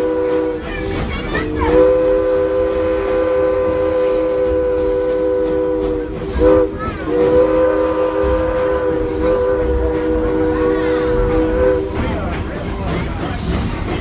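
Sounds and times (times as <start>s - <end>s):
steam locomotive chime whistle: 0.0s - 12.1s.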